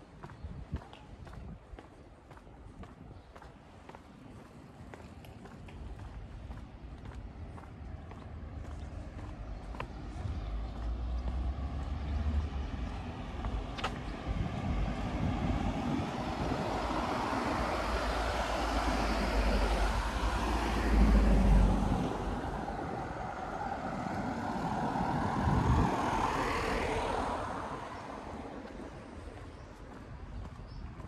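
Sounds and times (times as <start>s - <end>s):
cars passing: 5.0s - 31.0s.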